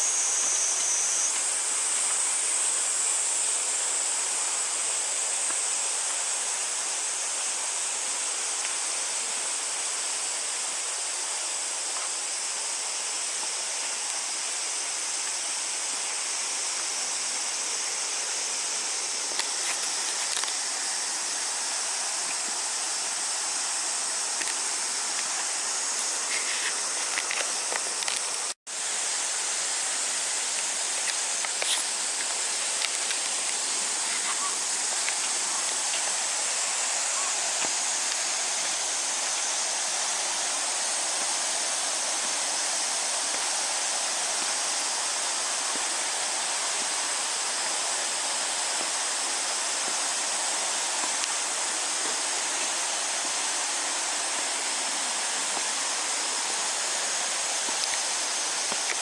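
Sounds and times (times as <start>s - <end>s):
high-pitched outdoor hiss: 0.0s - 59.0s.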